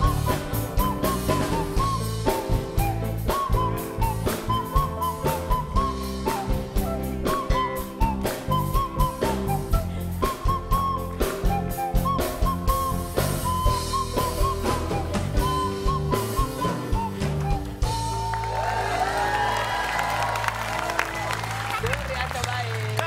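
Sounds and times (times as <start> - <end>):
recorder melody played through nose: 0.0 - 18.5
drums and bass backing: 0.0 - 23.0.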